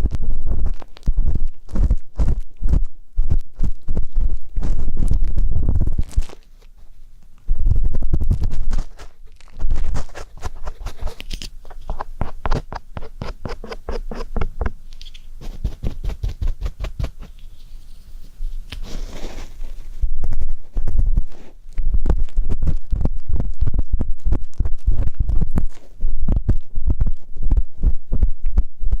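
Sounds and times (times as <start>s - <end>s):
muffled rumbling on microphone: 0.0s - 14.8s, 15.4s - 29.0s
ear pick scratching microphone: 0.0s - 29.0s.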